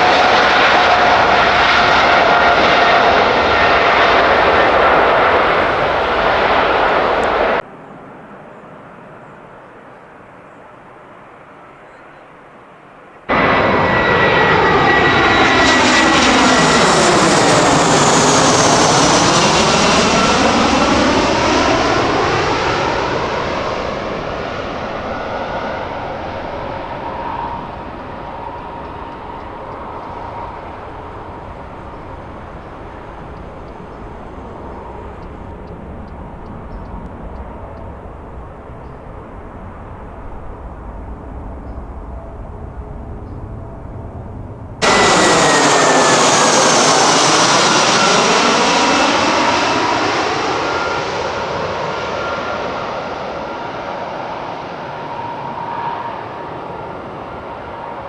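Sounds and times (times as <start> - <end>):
jet engines passing at takeoff: 0.0 - 11.8, 12.4 - 58.0.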